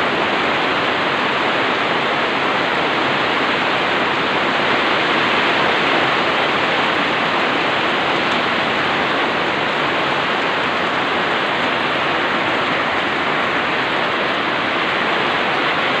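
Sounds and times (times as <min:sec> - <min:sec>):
heavy rain on a roof: 0:00.0 - 0:16.0.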